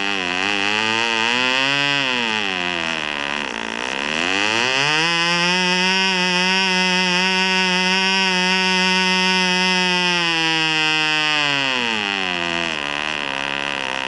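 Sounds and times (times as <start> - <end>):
model aircraft engine buzzing: 0.0 - 14.0.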